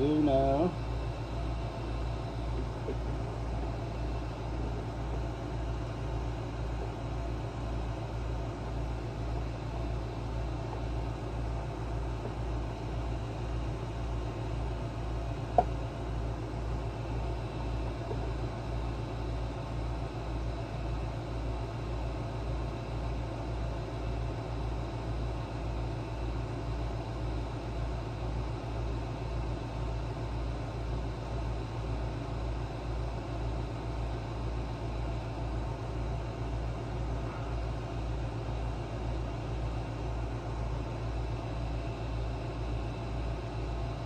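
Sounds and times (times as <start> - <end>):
low pulsing mechanical hum: 0.0 - 44.0.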